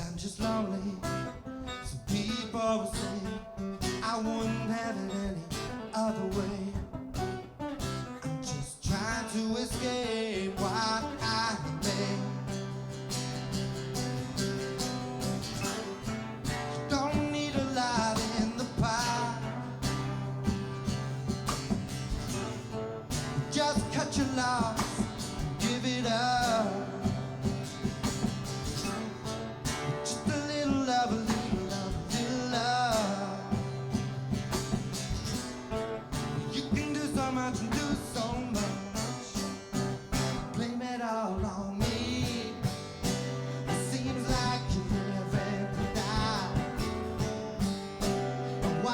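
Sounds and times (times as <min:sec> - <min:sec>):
acoustic guitar playing: 0:00.0 - 0:48.9.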